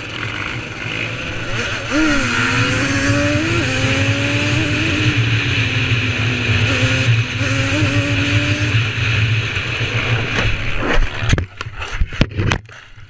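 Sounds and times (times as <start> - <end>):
quad engine running at speed: 0.0 - 13.0
wind noise: 1.1 - 13.0.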